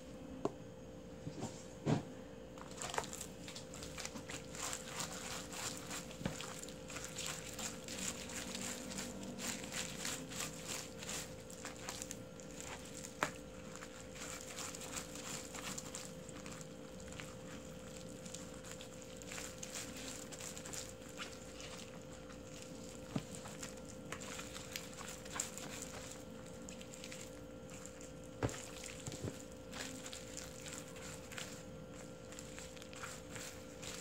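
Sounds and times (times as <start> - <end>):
steady hum: 0.0 - 34.0
hands squishing wet paste: 2.6 - 34.0.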